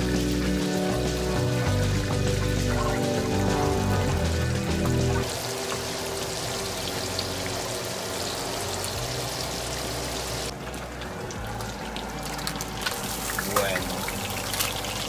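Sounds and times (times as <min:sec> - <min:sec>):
fish sizzling in hot oil: 0:00.0 - 0:10.6, 0:11.4 - 0:15.0.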